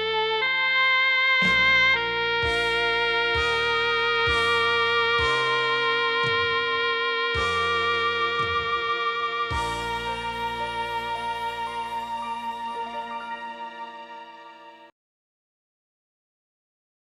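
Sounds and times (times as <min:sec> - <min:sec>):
alto saxophone ballad melody: 0:00.0 - 0:14.9
backing track bass and chords: 0:00.0 - 0:14.9.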